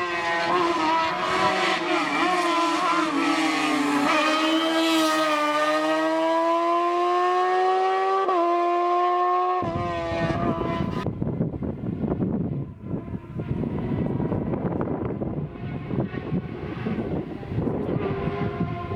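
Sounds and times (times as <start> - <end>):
race car engine accelerating: 0.0 - 18.9.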